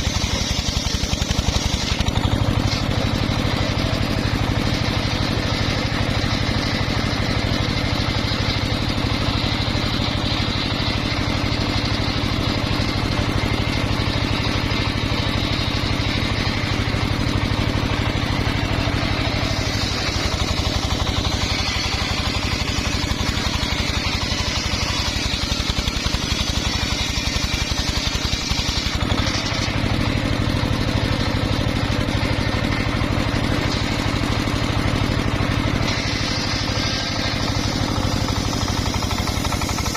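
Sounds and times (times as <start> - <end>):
engine-powered saw running: 0.0 - 39.9.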